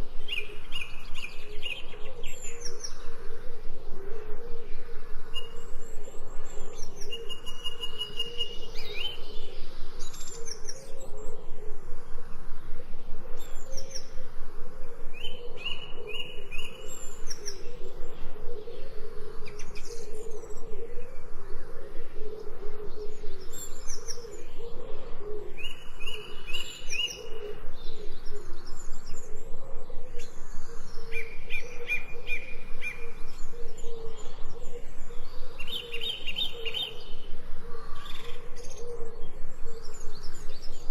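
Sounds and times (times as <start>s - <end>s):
songbirds singing: 0.0s - 40.9s
steady low background sound: 0.0s - 40.9s.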